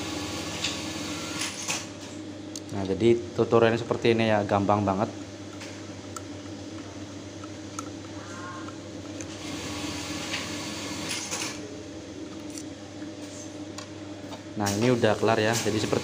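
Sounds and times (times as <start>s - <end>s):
electric motor mains hum: 0.0s - 16.0s.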